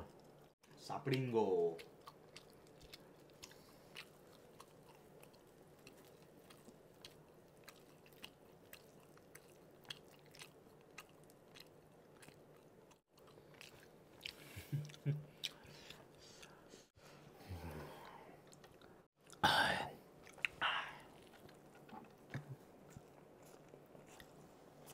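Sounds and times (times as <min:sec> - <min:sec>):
chewing with wet mouth clicks: 0:00.0 - 0:16.6, 0:18.4 - 0:19.4, 0:20.2 - 0:24.9.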